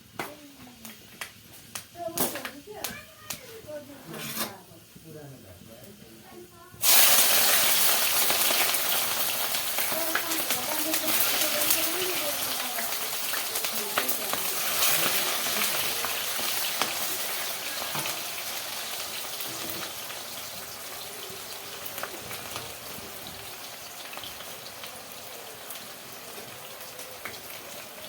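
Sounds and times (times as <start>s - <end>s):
meat sizzling in a pan: 0.0s - 28.0s.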